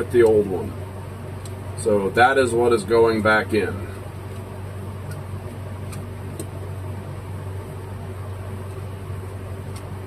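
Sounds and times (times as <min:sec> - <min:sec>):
mechanical hum and hiss: 0:00.0 - 0:10.0.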